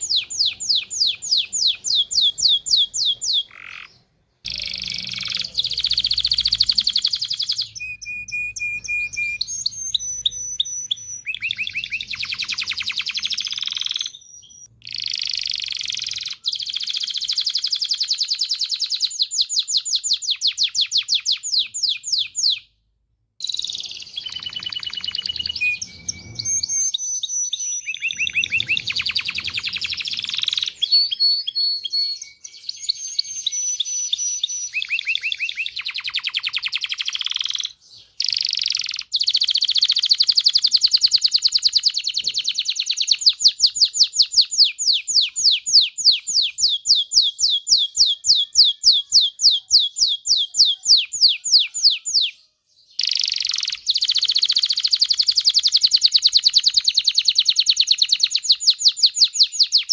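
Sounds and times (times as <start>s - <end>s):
canary singing: 0.0s - 22.8s, 23.4s - 59.9s.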